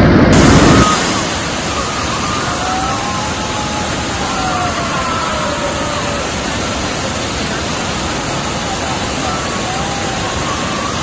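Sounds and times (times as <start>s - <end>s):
roar of waterfall: 0.0s - 11.0s
emergency siren wailing: 0.4s - 6.8s, 7.9s - 11.0s.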